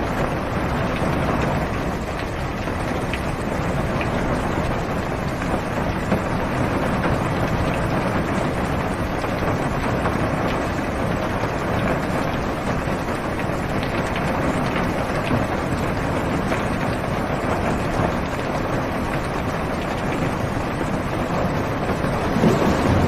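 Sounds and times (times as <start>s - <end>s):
rain on car roof: 0.0s - 23.0s.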